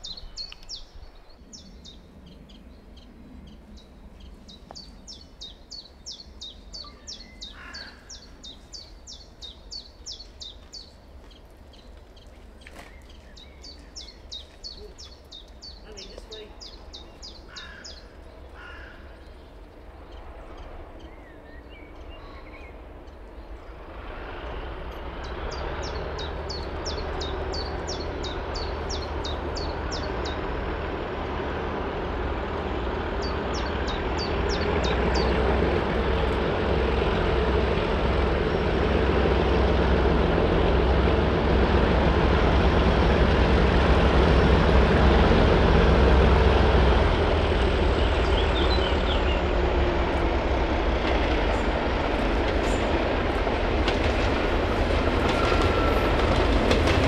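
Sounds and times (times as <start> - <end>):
diesel train approaching: 0.0 - 57.0.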